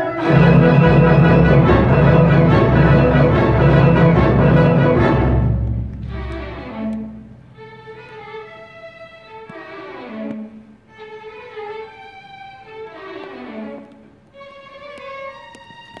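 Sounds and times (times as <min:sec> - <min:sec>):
orchestra strings playing: 0:00.0 - 0:16.0.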